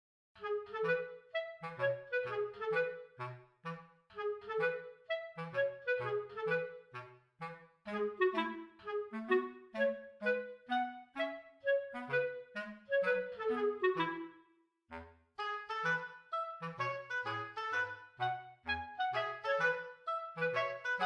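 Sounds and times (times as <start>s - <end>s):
woodwind melody: 0.4s - 14.6s, 15.4s - 21.0s.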